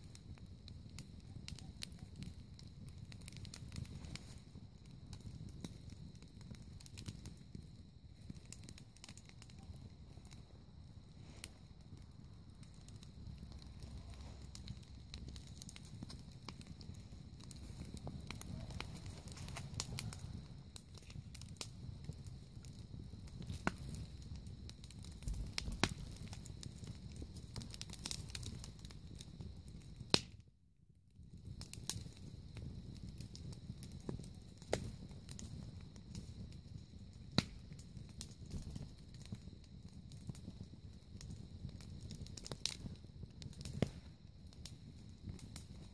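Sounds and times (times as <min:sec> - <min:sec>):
low fire rumble: 0:00.0 - 0:30.3, 0:31.0 - 0:45.9
wood fire crackling and popping: 0:00.0 - 0:30.5, 0:31.2 - 0:45.9.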